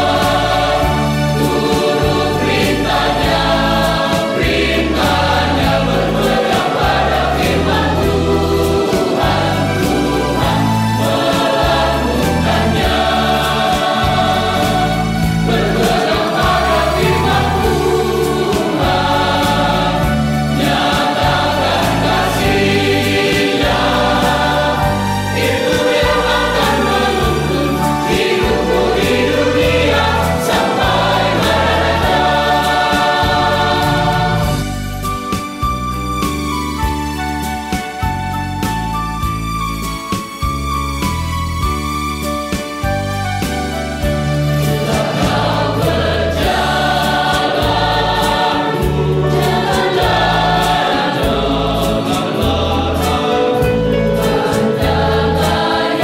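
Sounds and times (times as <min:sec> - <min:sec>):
mixed choir singing: 0:00.0 - 0:35.6, 0:44.0 - 0:56.0
instrumental backing: 0:00.0 - 0:56.0.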